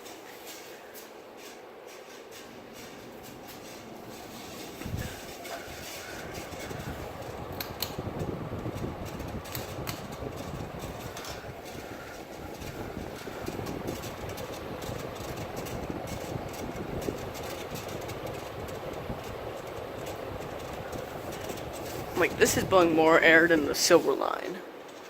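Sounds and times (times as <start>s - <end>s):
ceiling fan whirring: 0.0s - 25.0s.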